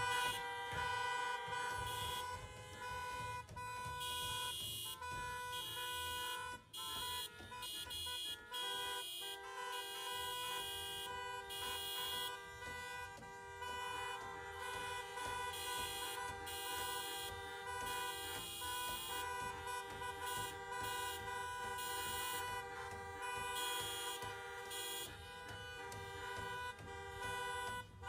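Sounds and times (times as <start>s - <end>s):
car horns honking: 0.0s - 28.0s.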